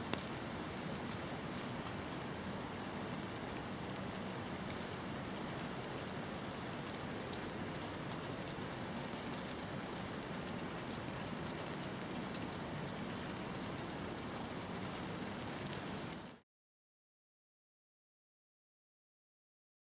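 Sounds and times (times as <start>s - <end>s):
rain drops ticking on hard surface: 0.0s - 16.4s
rain hiss: 0.0s - 16.4s.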